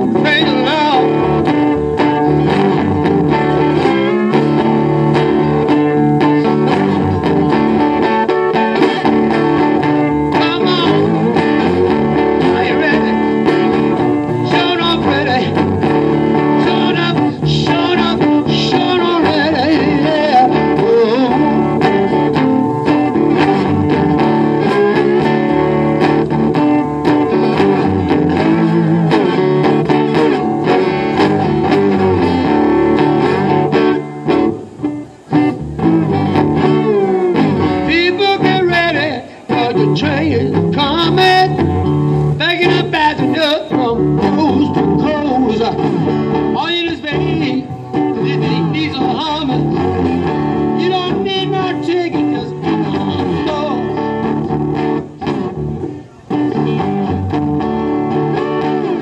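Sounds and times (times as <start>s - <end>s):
blues guitar solo: 0.0s - 59.0s.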